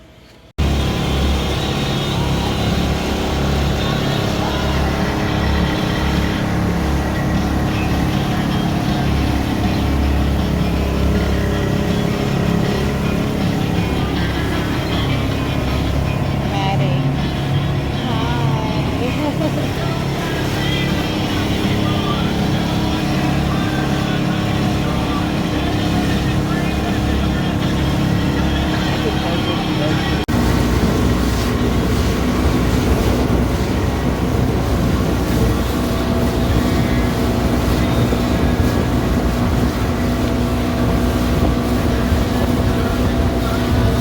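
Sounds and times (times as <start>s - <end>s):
boat motor droning: 0.0s - 44.0s
rushing water noise: 0.0s - 44.0s
wind rumbling: 0.6s - 44.0s.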